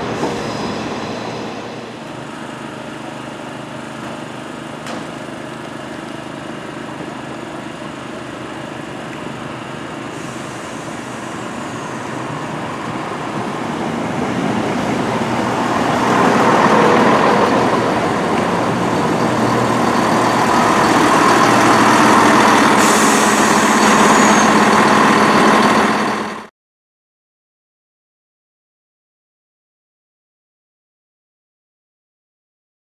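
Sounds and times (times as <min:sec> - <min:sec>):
diesel train arriving: 0:00.0 - 0:26.5.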